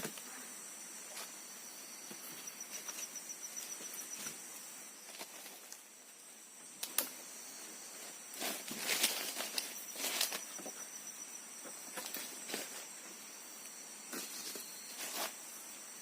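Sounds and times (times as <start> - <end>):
rustles: 0.0 - 16.0
high-pitched insect drone: 0.1 - 5.2, 6.0 - 16.0.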